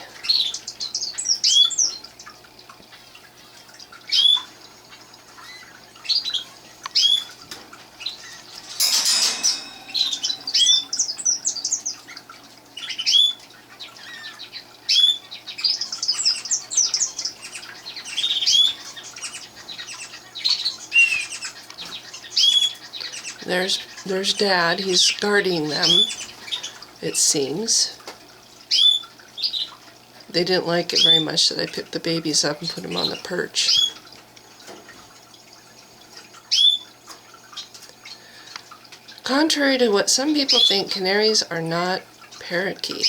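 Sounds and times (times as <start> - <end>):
canaries chirping: 0.0 - 2.2, 3.8 - 27.9, 28.7 - 34.1, 36.3 - 43.0.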